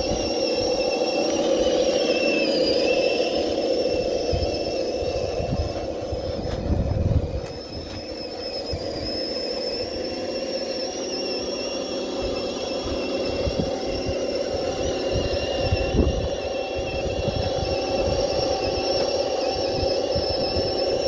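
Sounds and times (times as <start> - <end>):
toy truck motor whining: 0.0 - 21.0.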